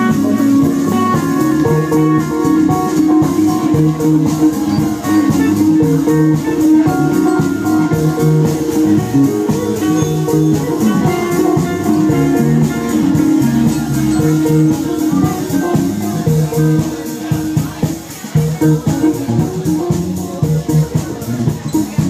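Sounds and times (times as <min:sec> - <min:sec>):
drum kit: 0:00.0 - 0:22.0
electric guitar playing: 0:00.0 - 0:22.0.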